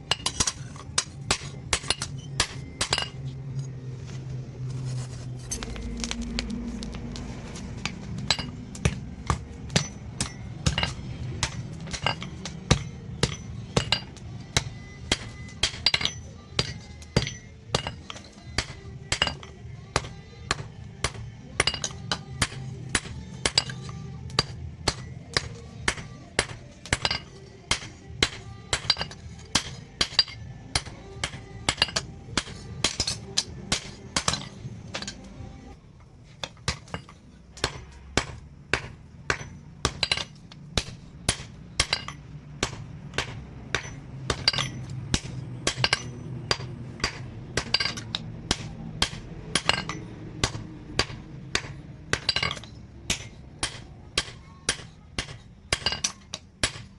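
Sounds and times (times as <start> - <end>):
hammer striking steel on anvil: 0.0 - 3.4, 7.8 - 35.3, 36.4 - 56.9.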